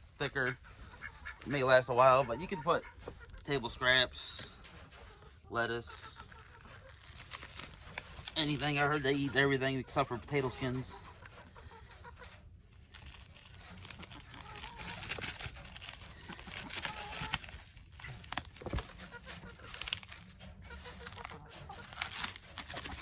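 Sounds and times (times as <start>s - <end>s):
chickens clucking: 0.0s - 23.0s
rustling handling noise: 0.0s - 23.0s.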